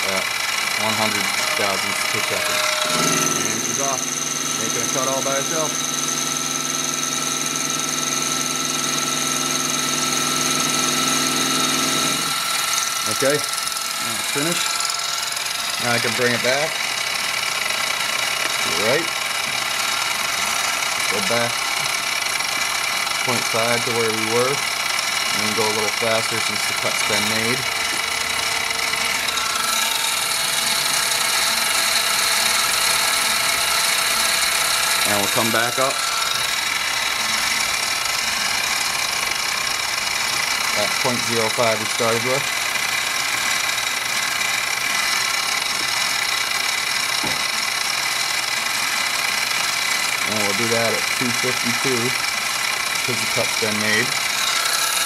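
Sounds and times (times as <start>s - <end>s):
milling machine hum and whine: 0.0s - 55.0s
stepper motor traversing: 0.0s - 55.0s.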